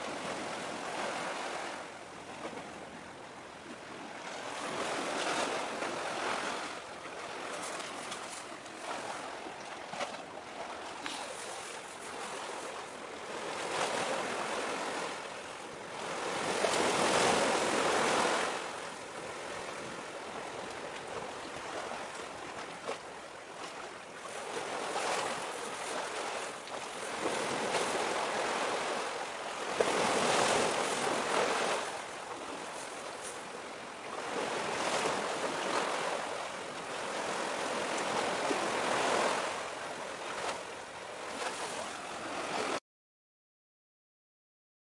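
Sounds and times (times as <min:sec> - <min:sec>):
sea waves washing on shore: 0:00.0 - 0:42.8.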